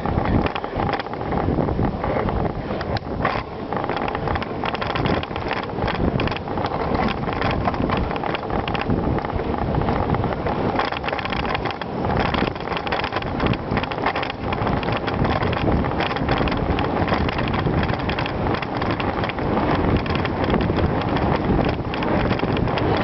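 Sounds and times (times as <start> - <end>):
bicycle tyres rolling on gravel: 0.0 - 23.0
bike rattling and clicking: 0.0 - 23.0
wind on microphone: 0.0 - 23.0.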